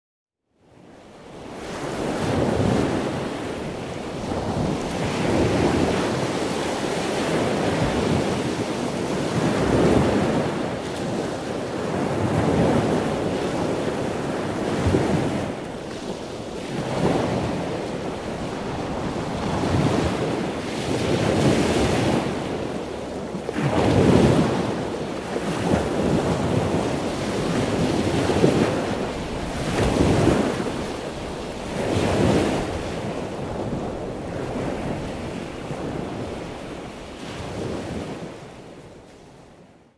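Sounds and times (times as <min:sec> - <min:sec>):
ocean waves breaking: 0:00.8 - 0:39.8.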